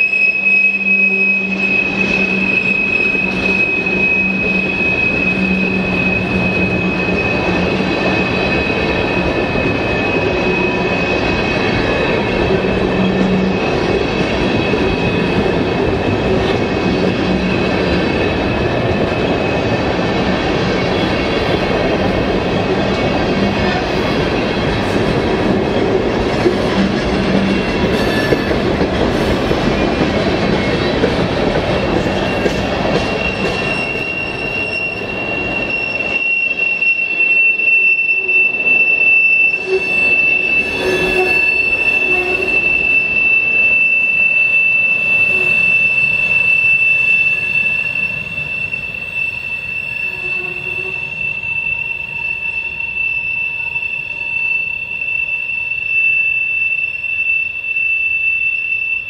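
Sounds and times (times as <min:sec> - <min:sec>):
train wheels rumbling on rail: 0:00.0 - 0:58.3
high-pitched wheel squeal: 0:00.0 - 0:59.0.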